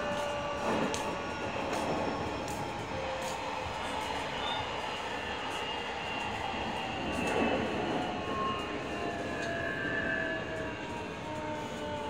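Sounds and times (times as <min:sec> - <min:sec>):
faint whining tones: 0:00.0 - 0:12.0
train equipment hum: 0:00.0 - 0:12.0.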